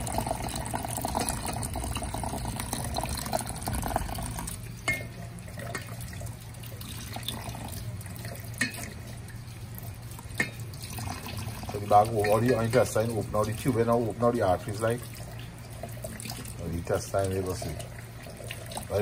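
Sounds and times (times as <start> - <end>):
water from hose into metal bowl: 0.0 - 19.0.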